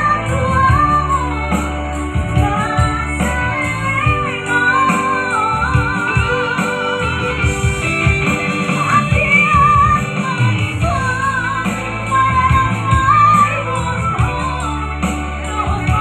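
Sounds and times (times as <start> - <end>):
guitar and band accompaniment: 0.0 - 16.0
singer with vibrato: 0.0 - 16.0.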